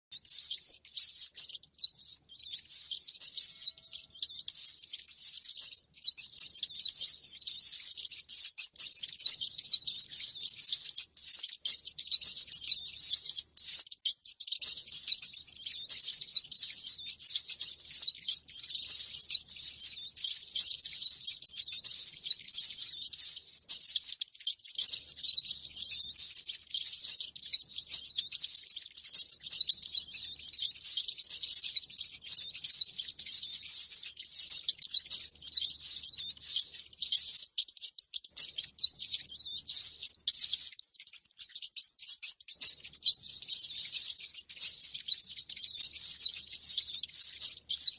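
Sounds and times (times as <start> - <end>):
rats squeaking and chittering: 0.1 - 47.9.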